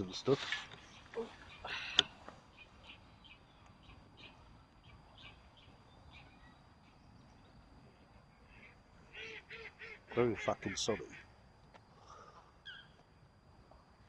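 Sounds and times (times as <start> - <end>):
small birds chirping: 0.0 - 11.4, 12.0 - 13.2.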